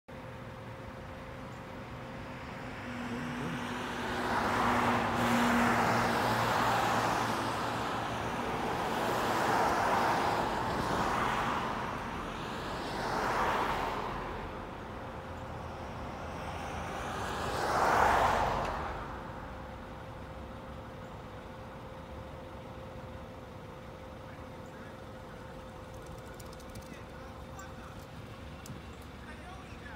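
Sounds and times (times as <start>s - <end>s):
cars passing by: 0.1s - 29.9s.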